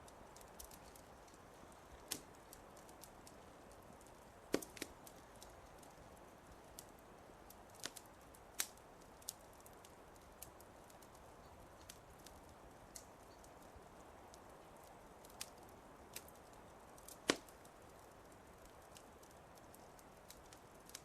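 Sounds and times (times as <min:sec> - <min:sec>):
faint steady hiss: 0:00.0 - 0:21.0
wood fire crackling: 0:00.0 - 0:21.0.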